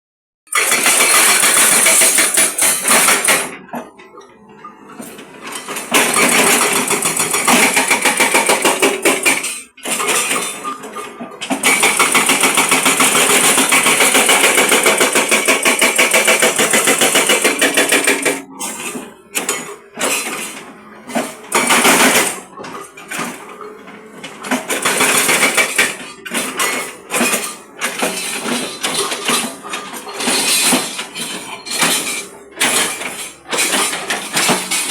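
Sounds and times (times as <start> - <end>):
hydraulic breaker hammering concrete: 0.5 - 3.8, 5.6 - 23.4, 24.4 - 34.9.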